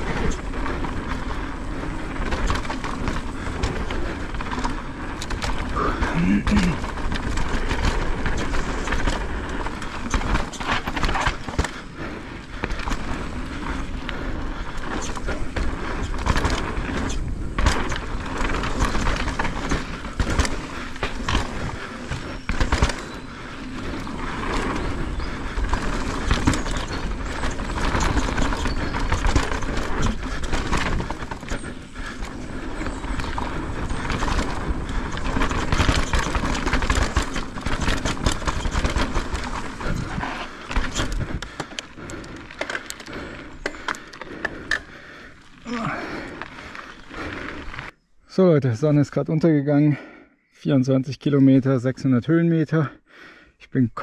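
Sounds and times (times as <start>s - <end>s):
bike knocking and rattling: 0.0s - 47.9s
bike tyres on dirt and rocks: 0.0s - 50.3s.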